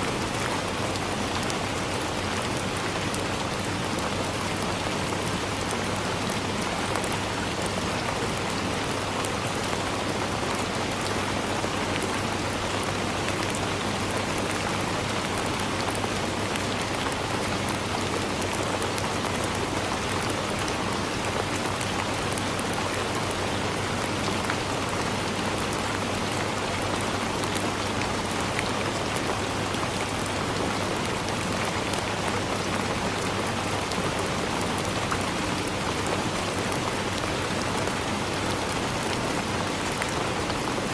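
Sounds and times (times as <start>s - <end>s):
rain on leaves: 0.0s - 40.9s.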